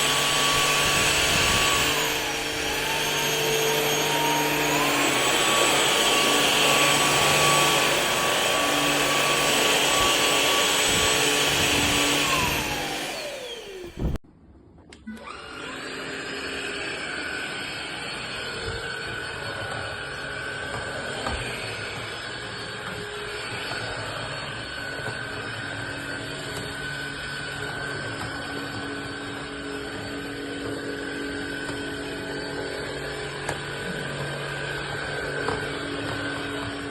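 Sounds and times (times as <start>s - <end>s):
stick vacuum motor whining: 0.0s - 14.2s, 15.0s - 36.9s.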